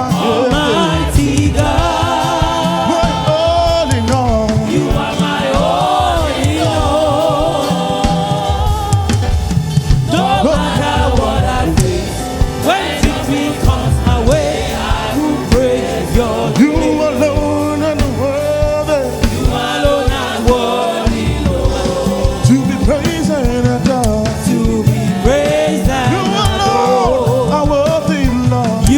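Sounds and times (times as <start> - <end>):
gospel choir singing: 0.0 - 28.9
live band bass and drums: 0.0 - 28.9.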